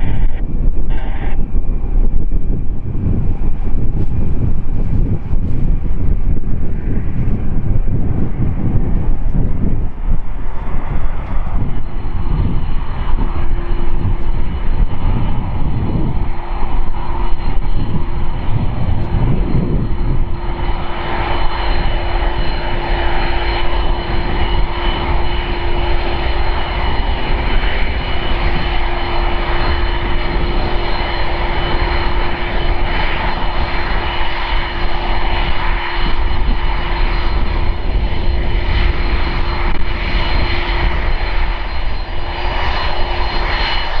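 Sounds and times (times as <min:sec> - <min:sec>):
jet engines whining: 0:00.0 - 0:44.0.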